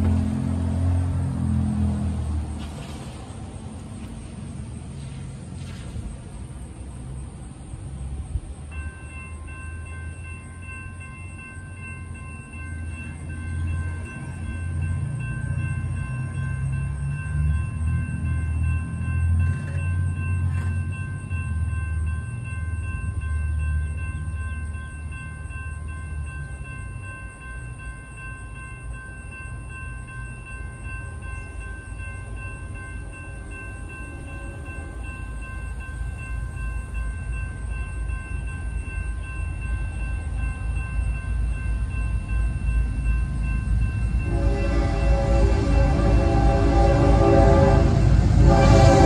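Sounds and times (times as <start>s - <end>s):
train rumbling: 0.0s - 49.0s
steady high-pitched tones: 8.3s - 49.0s.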